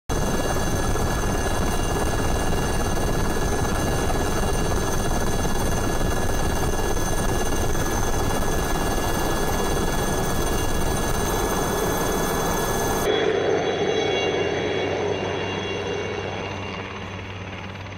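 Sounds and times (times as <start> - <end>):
helicopter engine and rotor: 0.1 - 17.9
high steady whine tones: 0.1 - 17.9.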